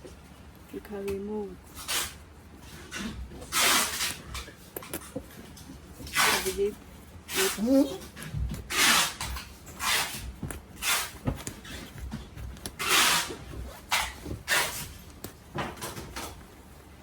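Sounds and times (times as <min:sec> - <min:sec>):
jacket fabric rustling: 0:02.1 - 0:17.0.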